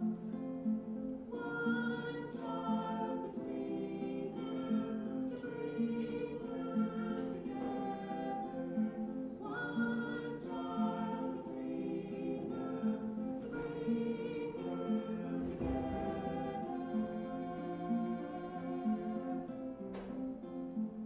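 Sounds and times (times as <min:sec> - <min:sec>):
plucked guitar: 0:00.0 - 0:21.0
group of voices singing: 0:01.3 - 0:20.3.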